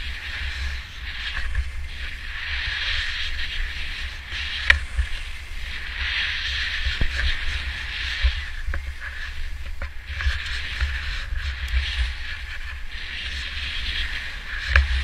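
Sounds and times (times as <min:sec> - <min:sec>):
skis hissing over snow: 0:00.0 - 0:15.0
wind buffeting microphone: 0:00.0 - 0:15.0.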